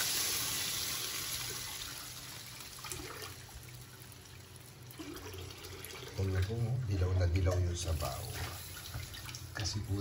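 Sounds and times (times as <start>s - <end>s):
water pouring into a wok: 0.0s - 10.0s.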